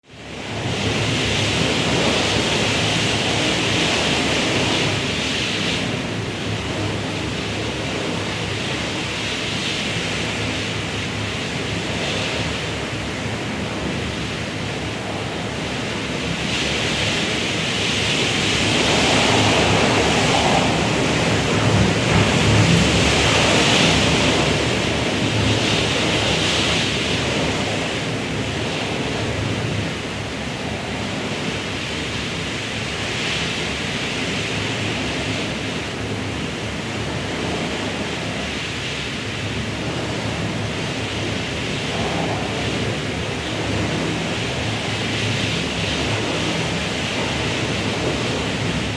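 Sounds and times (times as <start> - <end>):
strong wind howling: 0.0 - 48.9.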